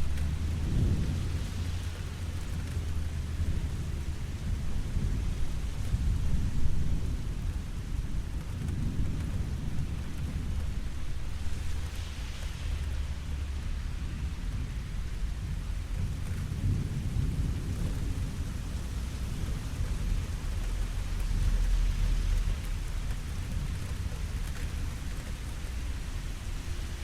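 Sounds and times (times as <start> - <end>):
distant thunder rumble: 0.0 - 26.8
steady rainfall: 0.0 - 27.0.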